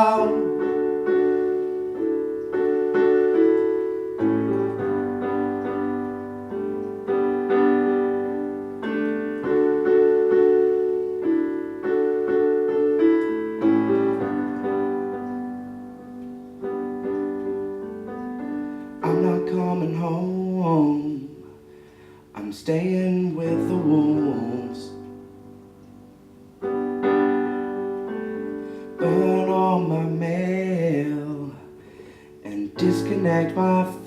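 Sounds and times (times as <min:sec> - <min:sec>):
piano chords: 0:00.0 - 0:34.0.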